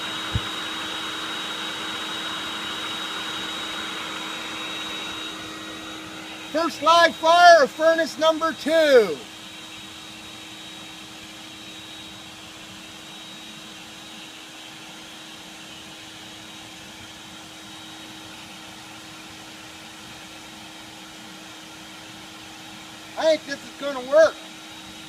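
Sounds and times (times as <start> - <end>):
electric blower humming: 0.0 - 25.0.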